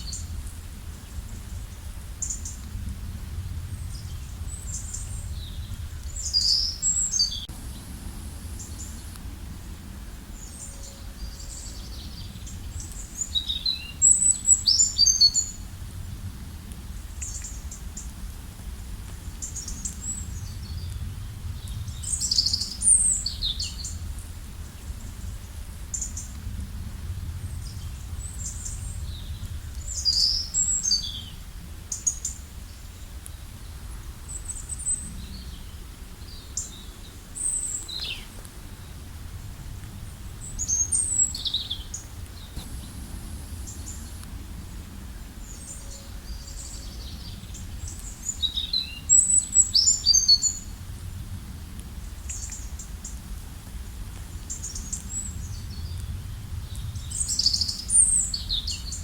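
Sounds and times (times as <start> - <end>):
low background rumble: 0.0 - 13.3, 14.0 - 48.4
songbirds chirping and trilling: 3.4 - 16.2, 19.1 - 26.4, 27.2 - 50.9, 54.4 - 59.0.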